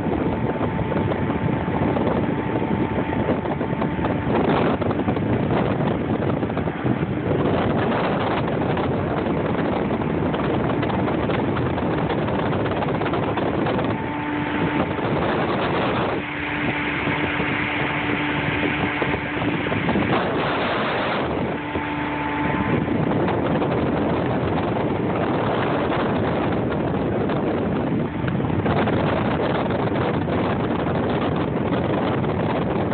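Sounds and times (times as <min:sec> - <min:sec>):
boat motor hum: 0:00.0 - 0:32.9
wind buffeting microphone: 0:00.0 - 0:32.9.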